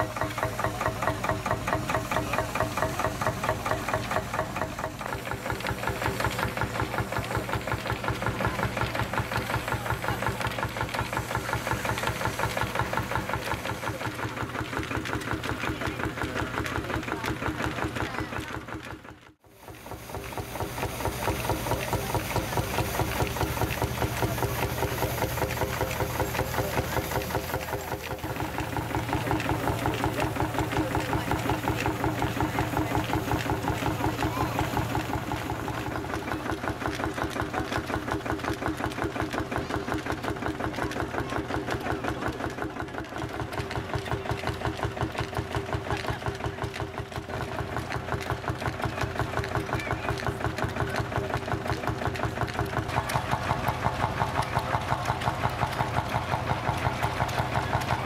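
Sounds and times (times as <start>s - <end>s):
tractor engines idling: 0.0s - 58.0s.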